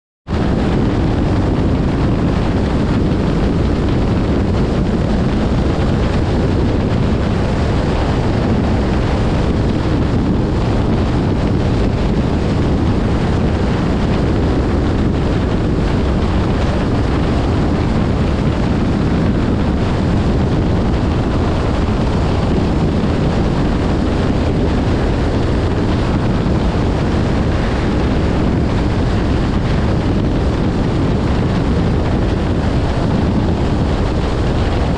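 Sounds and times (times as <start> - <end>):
car road and engine rumble: 0.3 - 34.9
wind buffeting microphone: 0.3 - 34.9.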